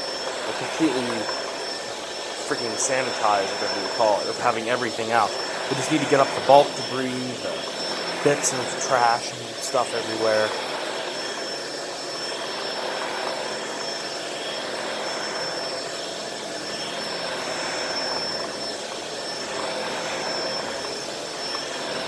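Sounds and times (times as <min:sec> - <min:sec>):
vacuum cleaner droning on carpet: 0:00.0 - 0:22.0.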